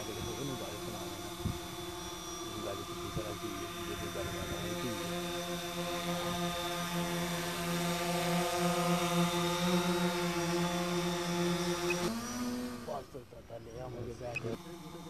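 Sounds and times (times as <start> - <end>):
drone propellers buzzing hum: 0.0 - 15.0.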